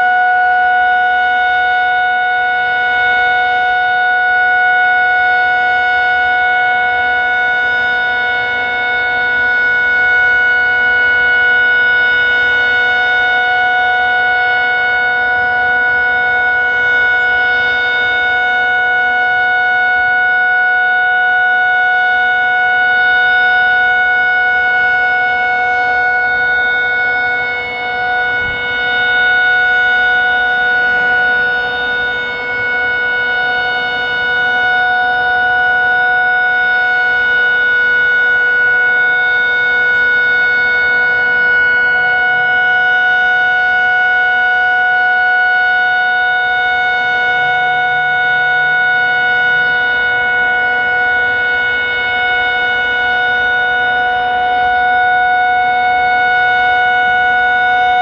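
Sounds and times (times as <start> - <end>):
electronic siren steady tone: 0.0 - 58.0.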